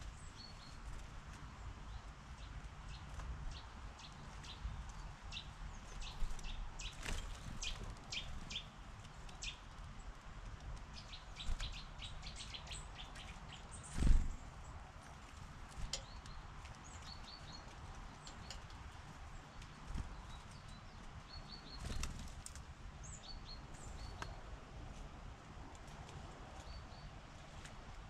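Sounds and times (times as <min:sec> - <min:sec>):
small birds chirping: 0:00.0 - 0:25.0, 0:25.7 - 0:27.7.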